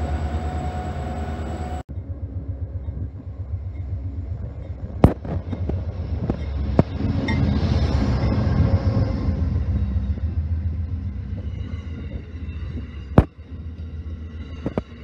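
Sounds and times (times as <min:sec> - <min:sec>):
approaching train rumble: 0:00.0 - 0:15.0
diesel locomotive humming: 0:00.0 - 0:15.0.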